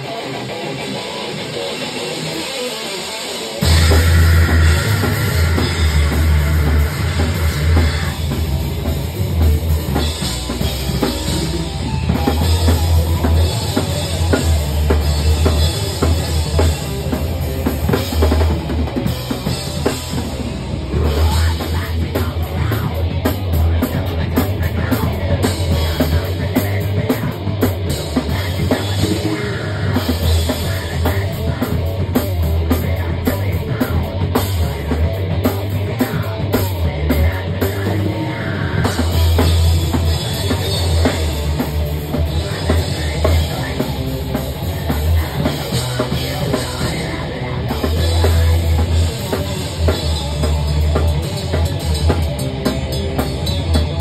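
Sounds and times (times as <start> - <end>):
distorted electric guitar: 0.0 - 54.0
heavy metal band playing: 0.0 - 54.0.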